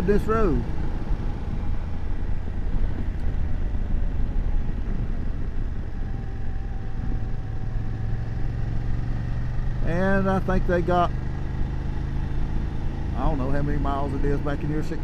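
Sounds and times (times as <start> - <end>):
low wind rumble: 0.0 - 15.0
motorcycle engine running: 0.0 - 15.0.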